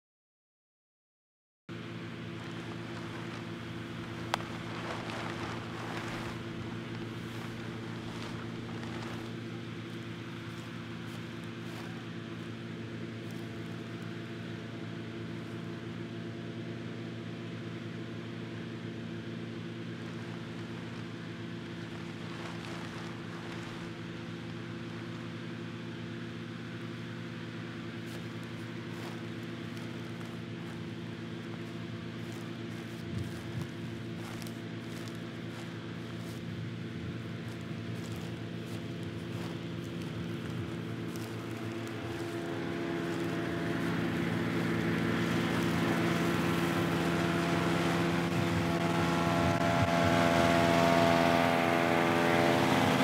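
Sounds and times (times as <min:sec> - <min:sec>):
inflator fan engine hum: 0:01.7 - 0:53.0.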